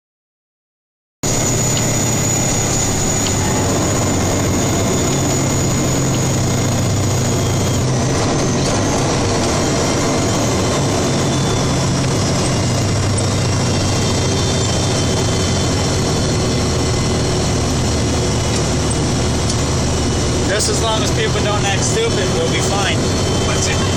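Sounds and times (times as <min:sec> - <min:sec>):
thin high whine: 0:01.2 - 0:23.9
truck engine and road noise: 0:01.2 - 0:23.9.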